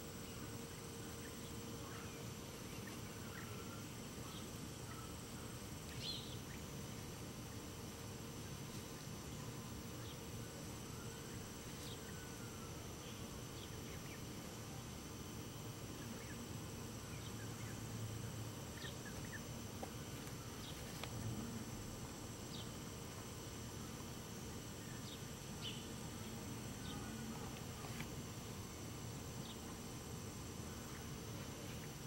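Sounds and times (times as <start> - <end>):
insect hum: 0.0 - 32.0.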